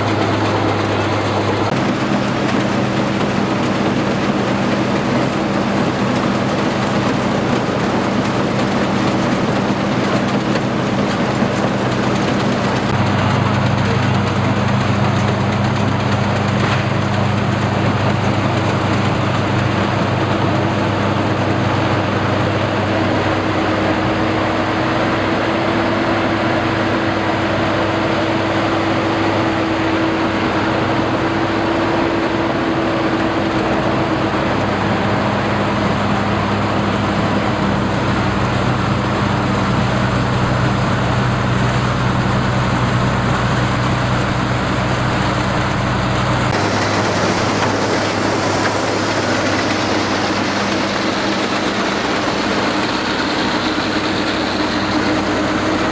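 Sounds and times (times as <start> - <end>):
combine harvester engine hum: 0.0 - 55.9.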